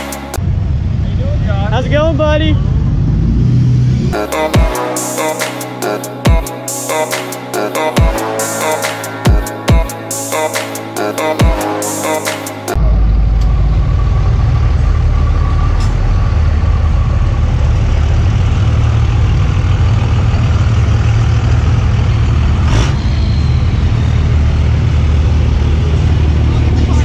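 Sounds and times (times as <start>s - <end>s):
vehicle engine rumbling: 0.0s - 11.4s, 12.6s - 27.0s.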